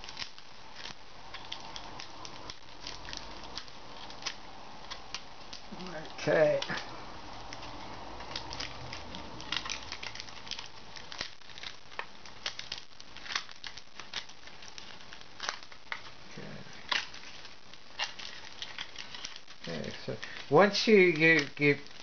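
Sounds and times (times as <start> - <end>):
foil crinkling as peeled: 0.0 - 22.0.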